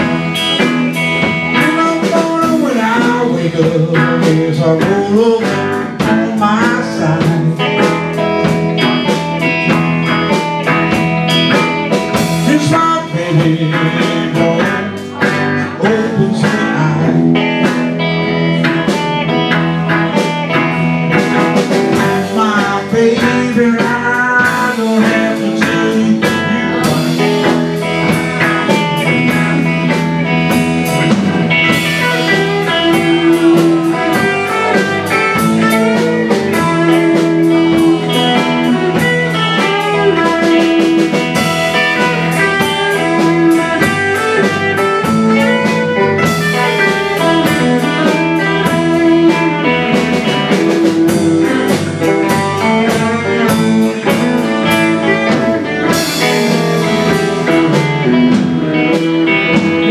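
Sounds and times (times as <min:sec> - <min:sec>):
blues band playing: 0:00.0 - 0:59.9
lead guitar bending notes: 0:00.0 - 0:59.9.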